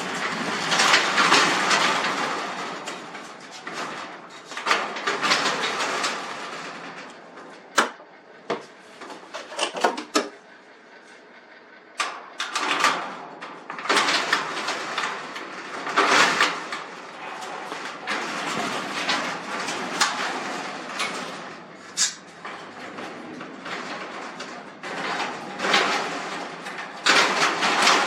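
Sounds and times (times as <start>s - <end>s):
garage door rollers rattling: 0.0s - 28.0s.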